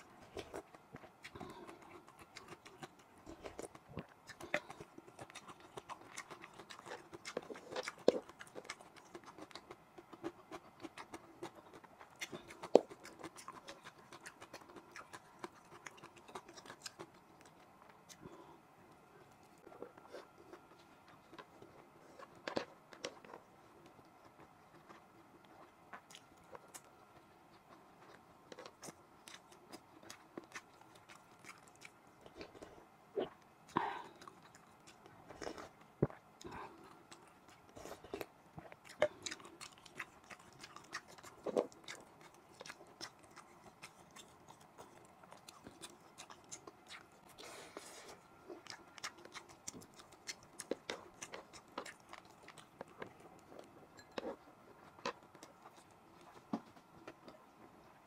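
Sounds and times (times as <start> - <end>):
wet chewing smacks and clicks: 0.0 - 18.3, 18.9 - 57.4.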